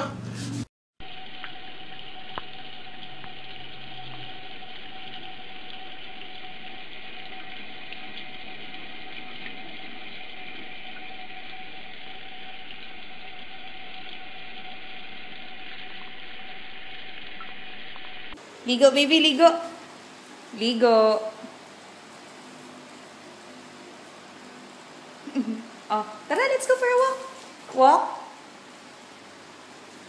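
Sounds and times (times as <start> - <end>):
running water from a tap: 1.0 - 30.0.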